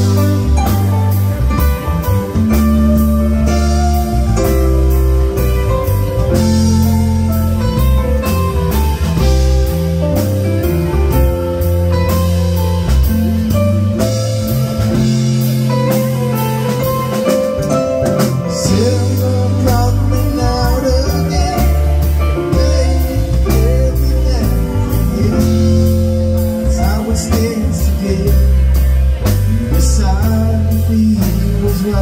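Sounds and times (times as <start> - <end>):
bass guitar: 0.0 - 32.0
drum kit steady beat: 0.0 - 32.0
guitar lines: 0.0 - 32.0.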